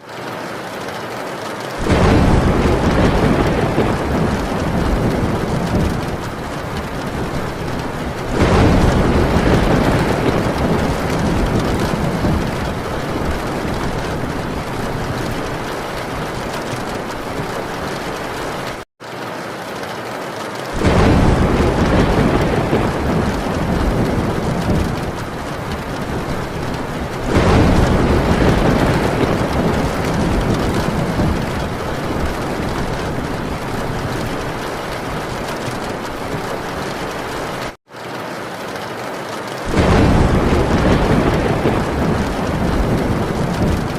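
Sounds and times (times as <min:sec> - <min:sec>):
heavy rain on a tin roof: 0:00.0 - 0:43.9
thunder rolling: 0:01.8 - 0:18.8, 0:20.8 - 0:37.8, 0:39.6 - 0:43.9.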